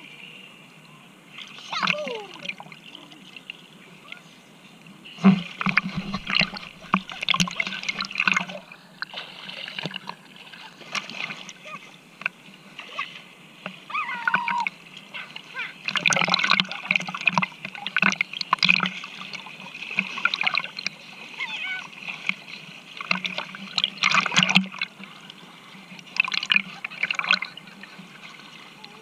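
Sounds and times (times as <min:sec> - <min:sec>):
water splashing: 0:01.3 - 0:04.4, 0:05.0 - 0:29.0.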